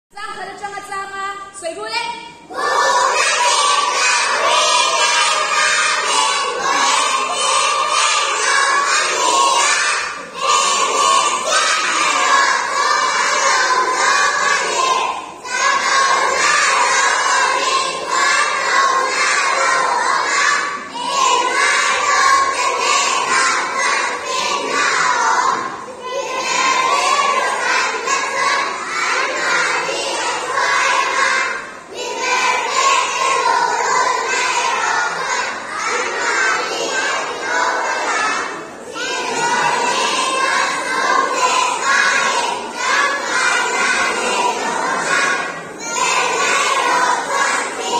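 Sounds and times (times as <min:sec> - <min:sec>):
children reciting in unison: 0:02.3 - 0:47.9.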